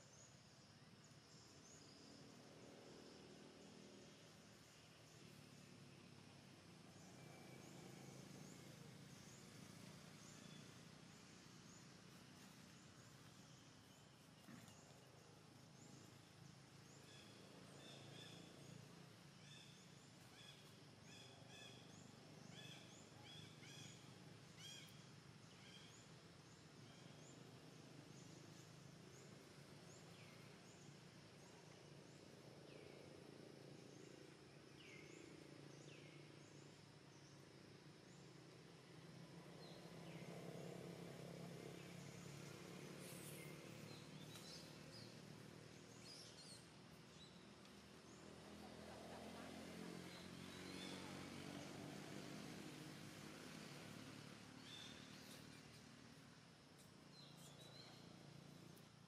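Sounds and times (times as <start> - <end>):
small birds chirping: 0.0 - 37.5, 39.4 - 59.0.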